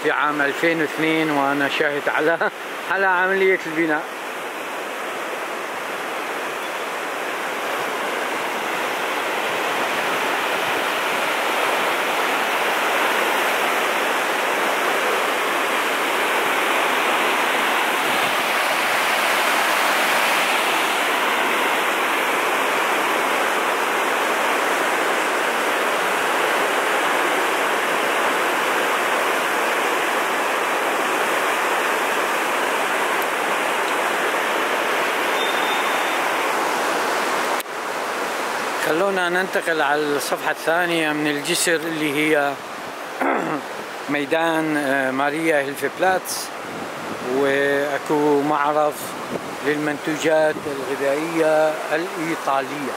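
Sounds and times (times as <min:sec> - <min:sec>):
river rushing over rocky rapids: 0:00.0 - 0:52.9.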